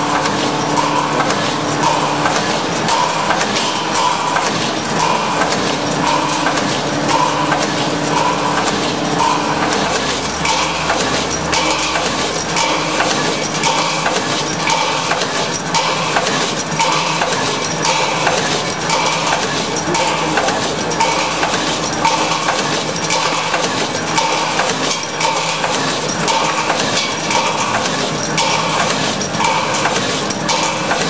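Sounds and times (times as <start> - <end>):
continuous machine noise: 0.0 - 31.0
steel tooling clanking: 0.0 - 31.0.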